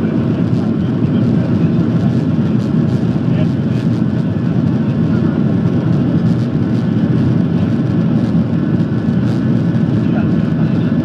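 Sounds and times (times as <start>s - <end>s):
jet engine cabin noise: 0.0s - 11.0s.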